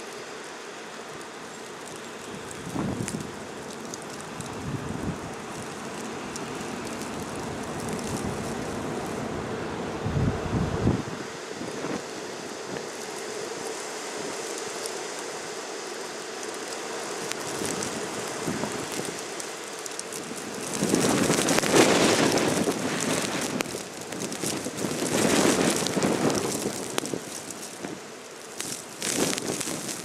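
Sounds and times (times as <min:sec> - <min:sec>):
blizzard wind gusting: 0:00.0 - 0:30.0.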